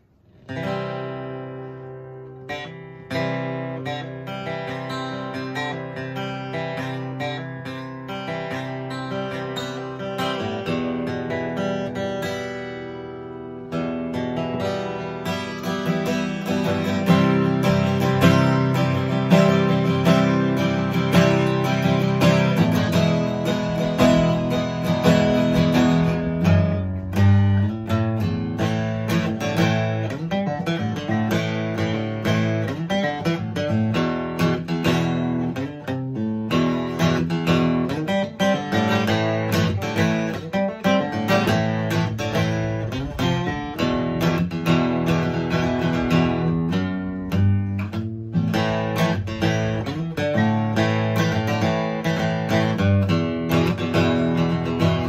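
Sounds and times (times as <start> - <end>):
acoustic guitar strumming chords: 0.0 - 55.0.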